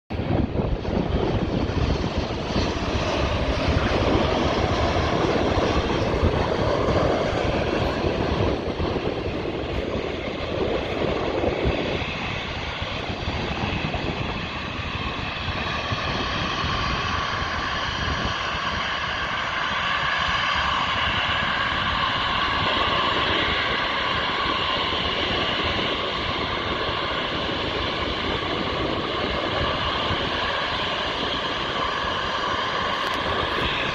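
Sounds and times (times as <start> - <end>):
jet engines landing: 0.1 - 33.9.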